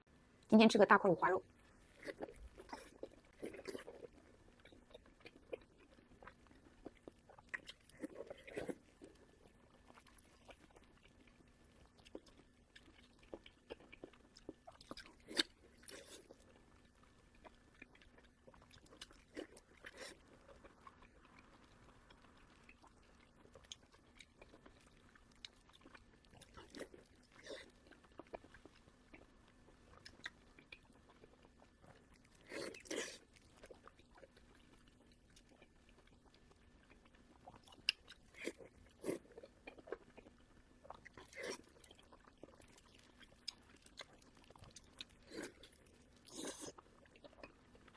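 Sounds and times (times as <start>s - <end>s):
chewing and biting: 1.8s - 47.9s.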